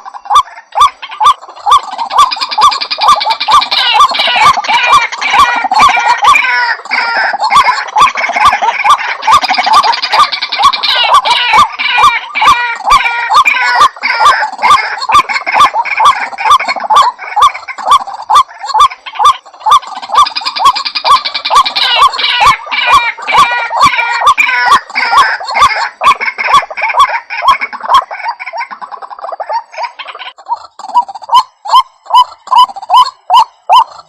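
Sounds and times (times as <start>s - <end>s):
bird calling harsh notes: 0.0s - 34.0s.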